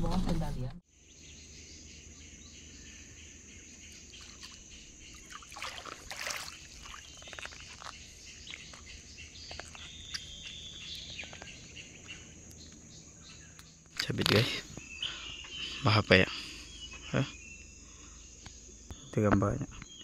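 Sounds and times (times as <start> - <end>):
bird chirps: 0.9 - 20.0
insect drone: 0.9 - 20.0.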